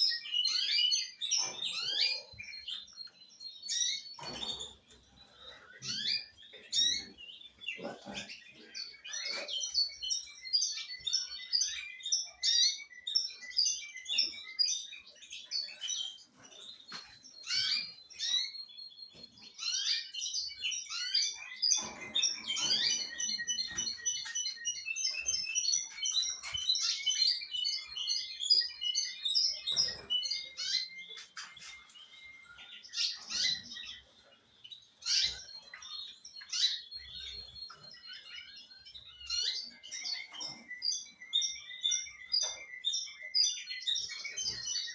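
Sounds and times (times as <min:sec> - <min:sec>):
songbirds chirping and twittering: 0:00.0 - 0:44.9.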